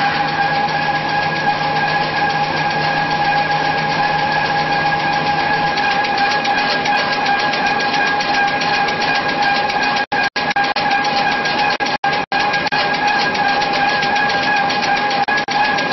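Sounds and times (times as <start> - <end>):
paper machine whine: 0.0 - 15.9
rapid clatter of rollers: 0.0 - 15.9.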